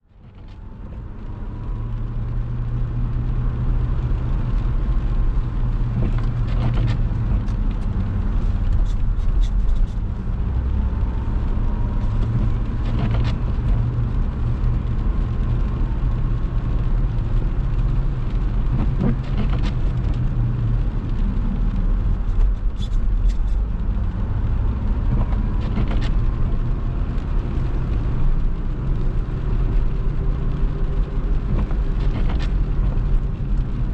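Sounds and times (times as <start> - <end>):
car engine and tyres rumbling: 0.0 - 33.9.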